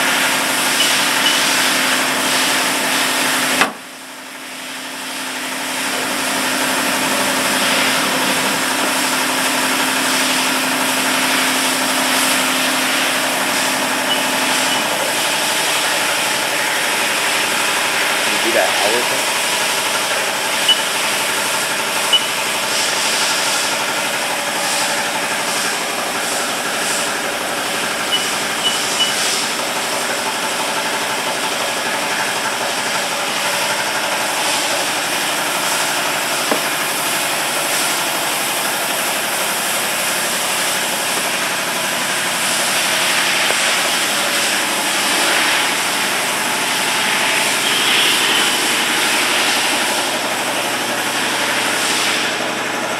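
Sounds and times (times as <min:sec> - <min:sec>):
lathe machine hum: 0:00.0 - 0:52.9.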